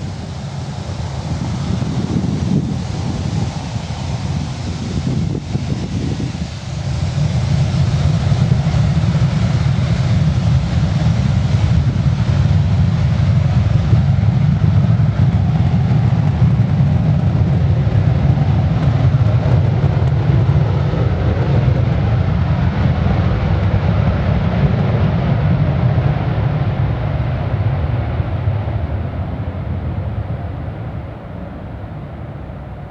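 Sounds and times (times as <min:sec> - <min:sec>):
jet engines at takeoff power: 0:00.0 - 0:32.9.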